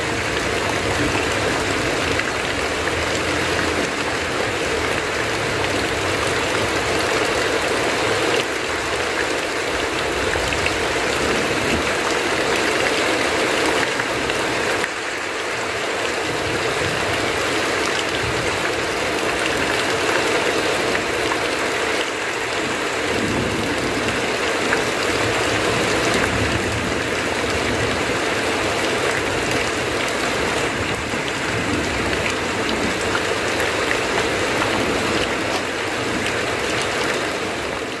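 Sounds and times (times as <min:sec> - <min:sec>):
heavy rain on a tin roof: 0:00.0 - 0:38.0
water running off roof: 0:00.0 - 0:38.0.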